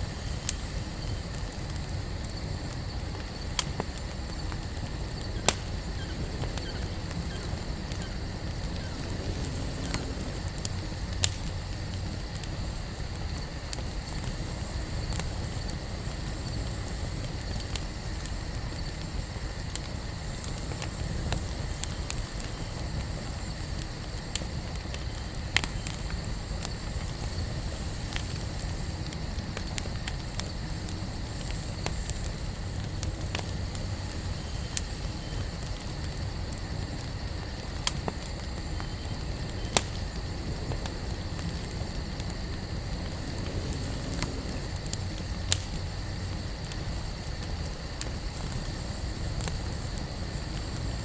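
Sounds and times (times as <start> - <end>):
burning wood crackling: 0.0 - 51.0
campfire flame rushing: 0.0 - 51.0.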